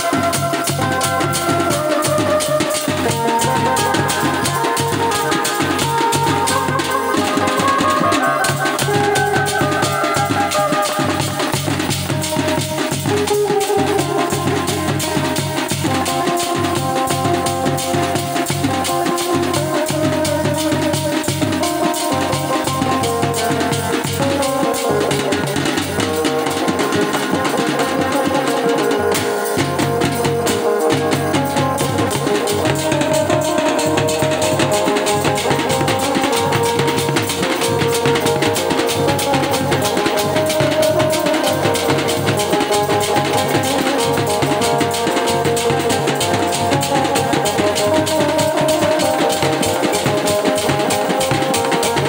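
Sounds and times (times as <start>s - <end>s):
fast steady drumming: 0.0s - 52.0s.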